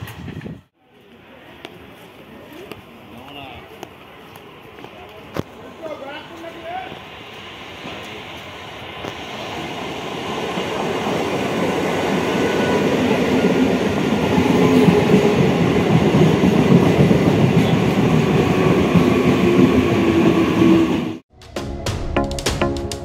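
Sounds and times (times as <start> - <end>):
electric train passing: 1.2 - 21.2.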